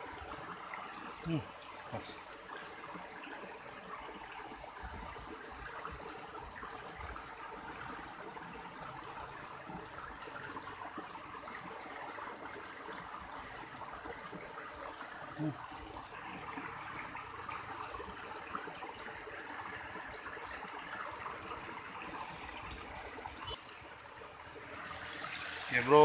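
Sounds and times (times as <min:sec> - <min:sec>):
water flowing in a channel: 0:00.0 - 0:26.0.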